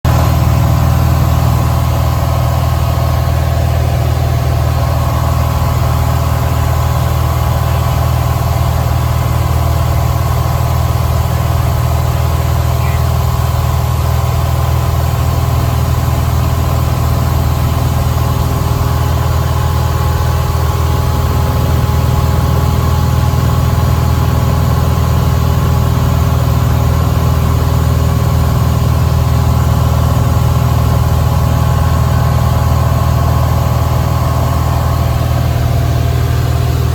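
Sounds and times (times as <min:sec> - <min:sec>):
aircraft propeller engine drone: 0:00.0 - 0:36.9.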